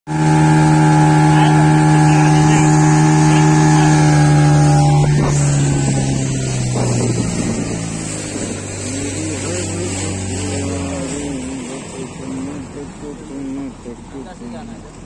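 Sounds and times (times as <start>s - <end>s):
motorboat engine droning: 0.1s - 15.0s.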